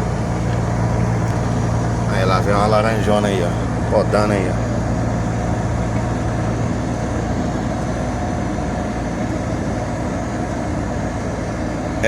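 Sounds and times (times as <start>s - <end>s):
road and wind noise: 0.0s - 12.0s
truck engine droning: 0.0s - 12.0s.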